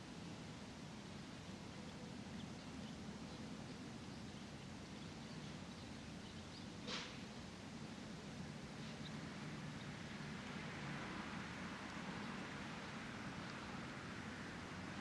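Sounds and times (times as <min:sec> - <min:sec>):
distant traffic rumble: 0:00.0 - 0:15.0
steady hiss: 0:00.0 - 0:15.0
small birds chirping: 0:00.9 - 0:10.7, 0:11.3 - 0:14.3.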